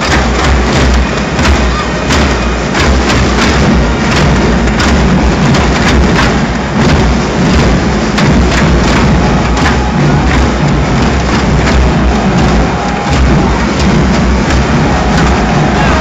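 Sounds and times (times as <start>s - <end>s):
distorted crowd noise: 0.0s - 16.0s
sharp beats or claps: 0.0s - 16.0s.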